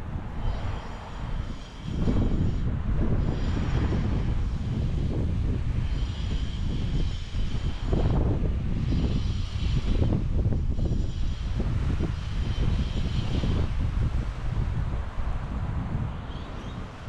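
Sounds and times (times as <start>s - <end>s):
road traffic rumble: 0.0s - 17.0s
wind: 0.0s - 17.0s.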